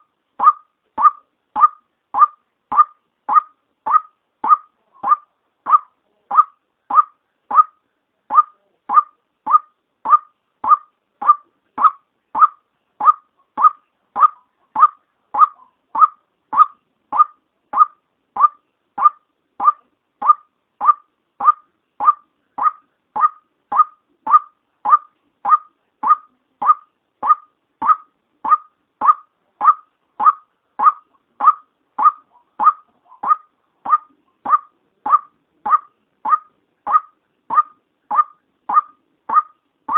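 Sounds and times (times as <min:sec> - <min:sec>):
waterhen call: 0:00.0 - 0:39.9.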